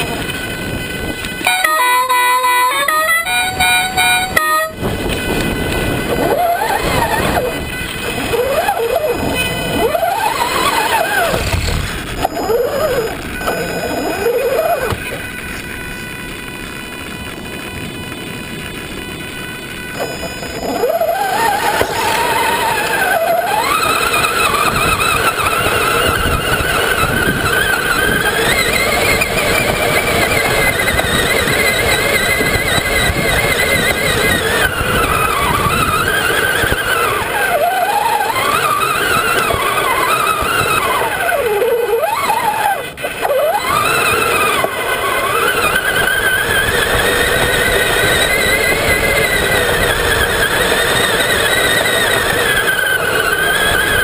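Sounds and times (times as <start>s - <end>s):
toy truck electric motor whining: 0.0s - 54.0s.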